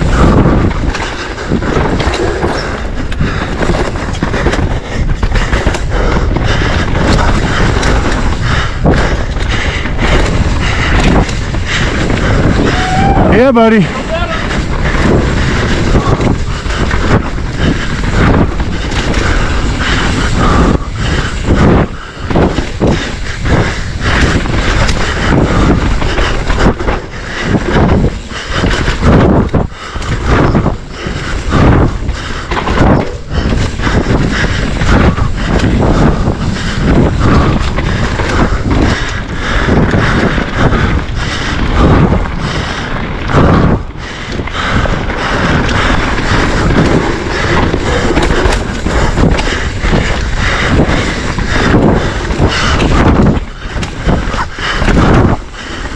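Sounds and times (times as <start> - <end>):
bike rattling and knocking: 0.0 - 55.9
tyres rumbling on dirt: 0.0 - 55.9
wind on microphone: 0.0 - 55.9.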